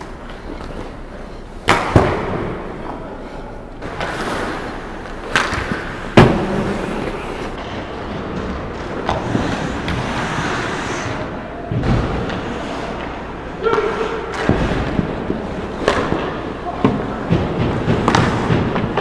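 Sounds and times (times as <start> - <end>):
hockey sticks striking puck: 1.6 - 3.0, 3.8 - 19.0
skates scraping ice: 2.8 - 19.0.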